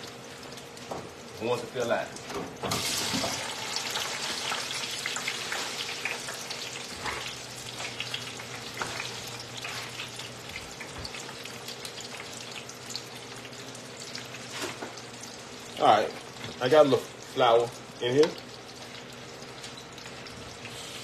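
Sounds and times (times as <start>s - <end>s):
oil sizzling and crackling in fryer: 0.0s - 21.0s.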